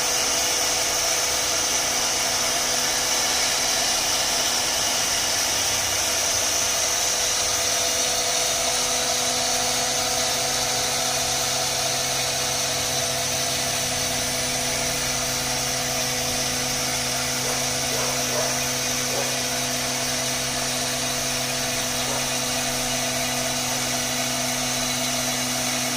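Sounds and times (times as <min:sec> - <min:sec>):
router spindle whining: 0:00.0 - 0:25.9.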